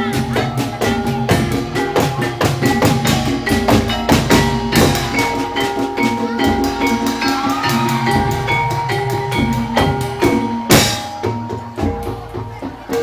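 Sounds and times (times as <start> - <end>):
held pitched notes: 0.0 - 13.0
percussion ensemble playing: 0.0 - 13.0.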